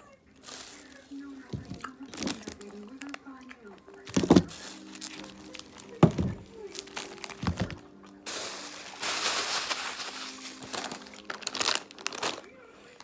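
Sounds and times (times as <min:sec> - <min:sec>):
plastic bag crinkling: 0:00.3 - 0:13.0.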